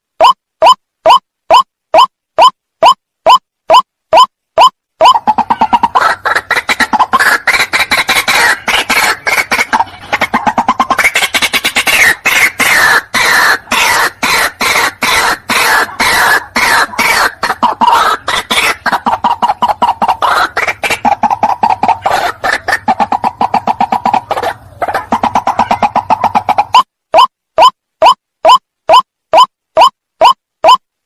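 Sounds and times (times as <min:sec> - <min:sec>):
waterhen calls: 0:00.2 - 0:29.9.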